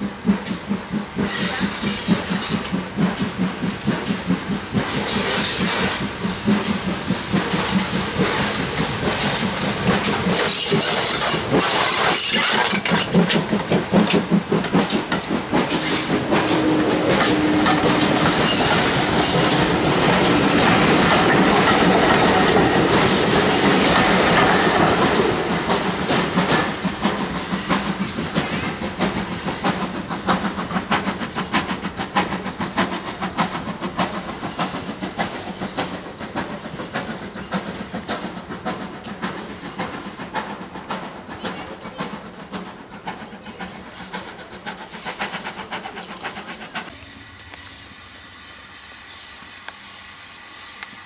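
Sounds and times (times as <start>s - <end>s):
train wheels clattering over rail joints: 0.0s - 47.0s
distant rail sound with hiss: 0.0s - 51.0s.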